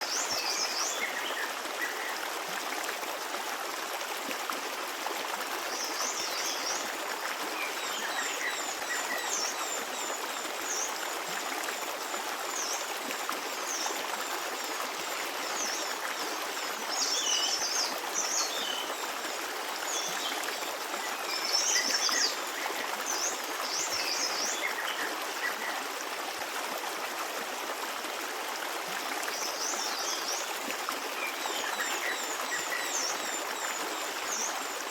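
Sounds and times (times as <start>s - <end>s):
stream running: 0.0s - 34.9s.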